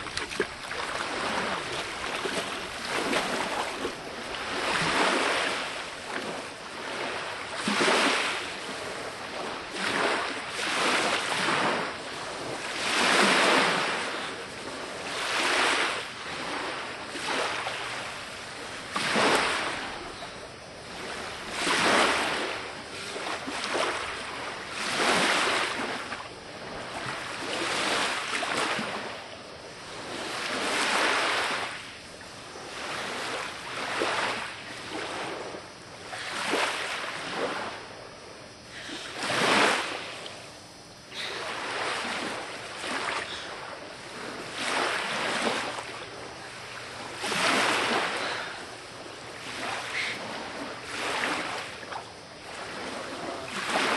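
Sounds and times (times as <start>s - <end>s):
lake waves washing on shore: 0.0s - 53.9s.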